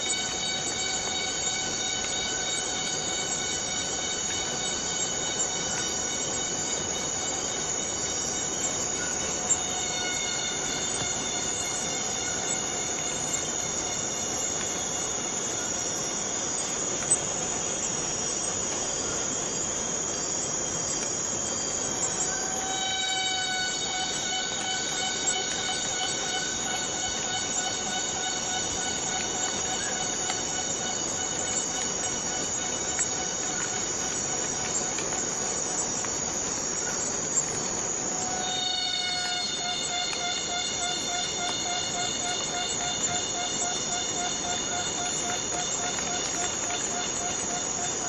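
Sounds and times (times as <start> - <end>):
cicadas buzzing chorus: 0.0 - 48.0.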